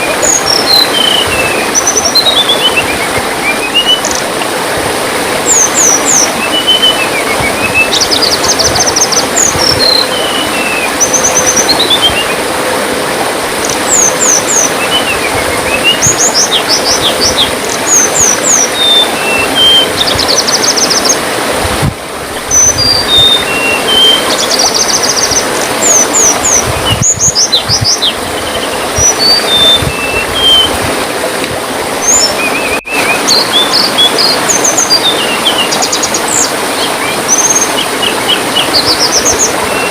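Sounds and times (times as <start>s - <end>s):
songbird singing high trills: 0.0s - 4.2s, 5.5s - 12.4s, 13.6s - 21.2s, 22.5s - 30.8s, 32.0s - 39.9s
trickling water: 0.0s - 39.9s.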